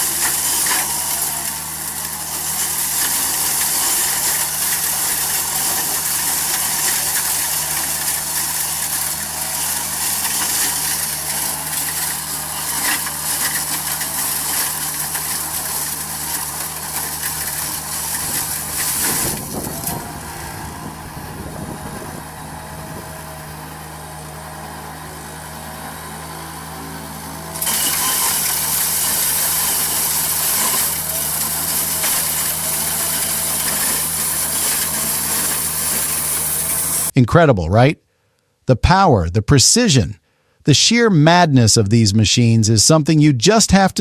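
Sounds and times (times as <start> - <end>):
heavy machine engine running: 0.0 - 37.2.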